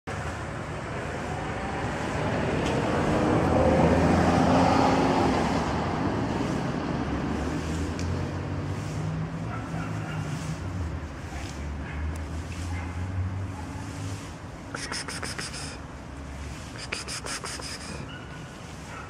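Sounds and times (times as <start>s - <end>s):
motor vehicle passing: 0.1s - 19.0s.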